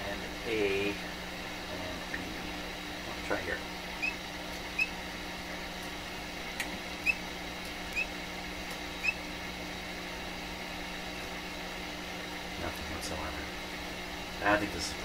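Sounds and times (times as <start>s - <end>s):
mains hum and hiss: 0.0s - 15.0s.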